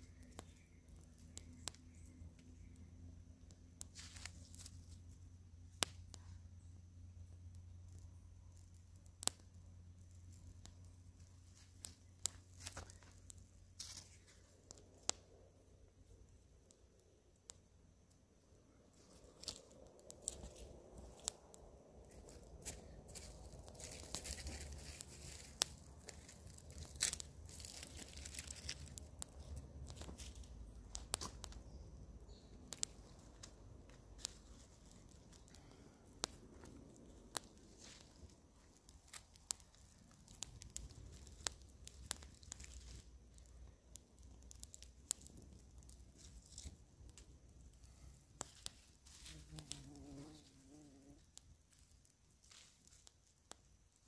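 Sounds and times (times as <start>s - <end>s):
low background rumble: 0.0s - 49.1s
wood fire crackling: 0.0s - 54.0s.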